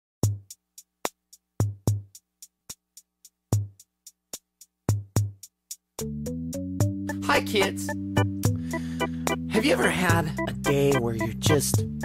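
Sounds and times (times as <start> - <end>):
drum machine beat: 0.2 - 12.0.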